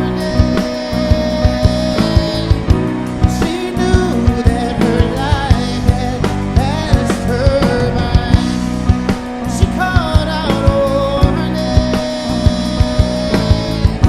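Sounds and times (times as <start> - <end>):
bass line: 0.0 - 14.0
drum kit beat: 0.0 - 14.0
rock band playing: 0.0 - 14.0.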